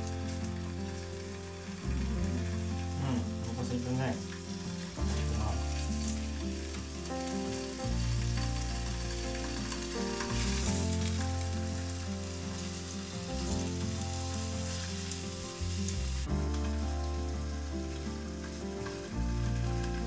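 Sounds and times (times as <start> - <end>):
fish sizzling in frying pan: 0.0 - 20.0
soft background music: 0.0 - 20.0.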